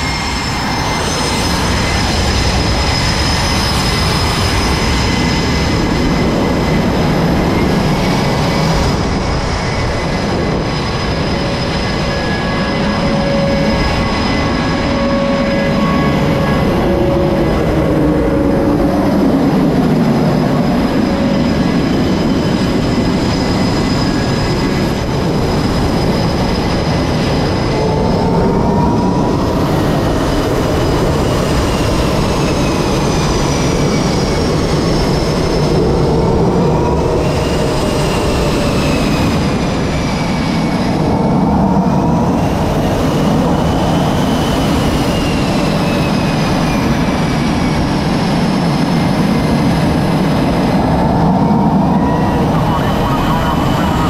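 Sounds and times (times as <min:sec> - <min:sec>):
high whining tones: 0:00.0 - 0:42.2, 0:49.8 - 0:54.0
jet engines roaring: 0:00.0 - 0:54.0.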